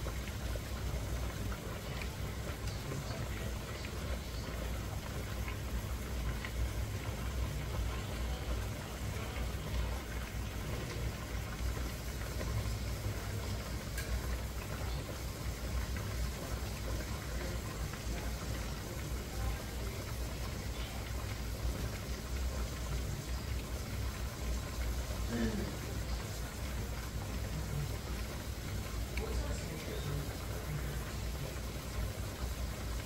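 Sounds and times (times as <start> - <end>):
water boiling in pressure canner: 0.0 - 33.0.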